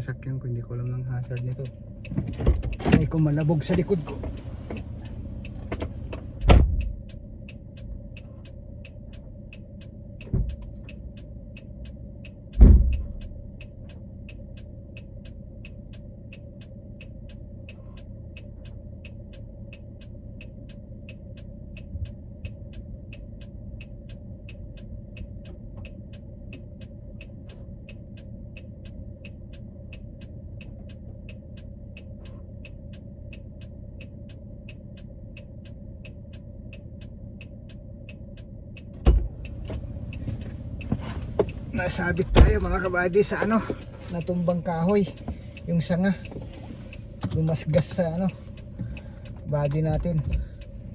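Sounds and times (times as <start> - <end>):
road and engine rumble: 0.0 - 50.9
hazard light relay ticking: 0.8 - 50.9.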